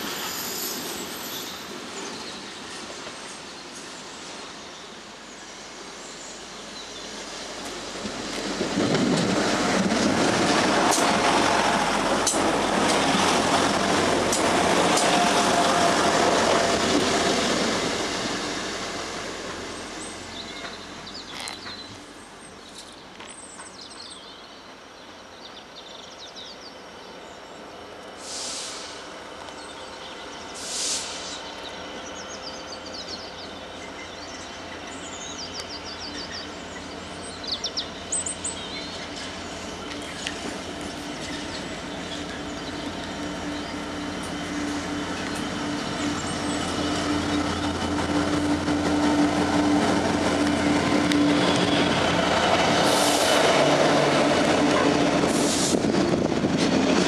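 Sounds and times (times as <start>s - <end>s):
passenger train rushing past: 0.0s - 22.6s, 25.5s - 57.0s
distant freight train rumble: 0.0s - 57.0s.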